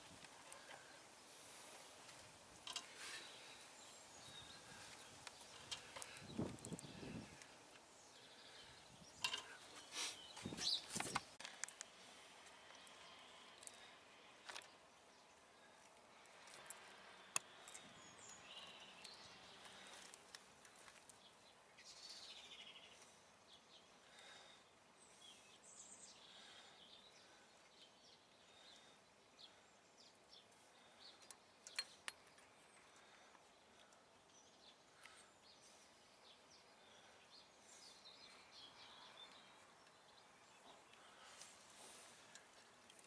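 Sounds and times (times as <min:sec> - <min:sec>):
faint birdsong: 0:00.0 - 0:43.0.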